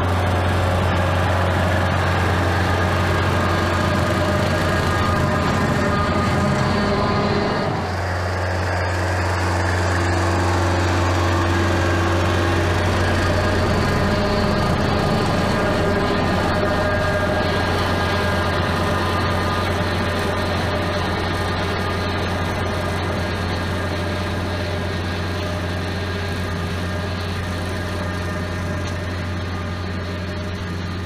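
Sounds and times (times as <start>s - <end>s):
rotary cutter through grass: 0.0s - 31.0s
tractor diesel engine droning: 0.0s - 31.0s.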